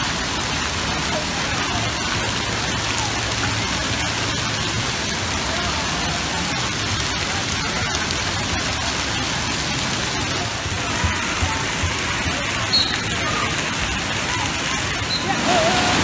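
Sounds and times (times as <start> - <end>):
water spraying onto wet deck: 0.0 - 16.0.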